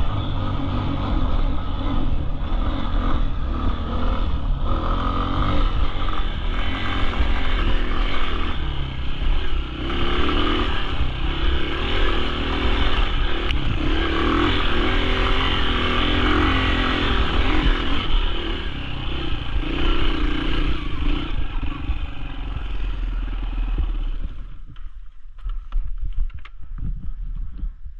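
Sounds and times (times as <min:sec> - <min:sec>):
dirt bike engine revving: 0:00.0 - 0:24.6.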